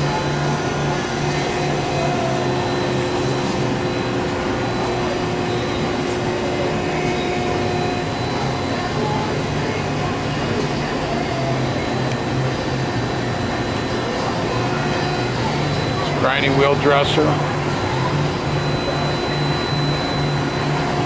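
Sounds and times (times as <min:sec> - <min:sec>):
grinding machine humming: 0:00.0 - 0:21.0.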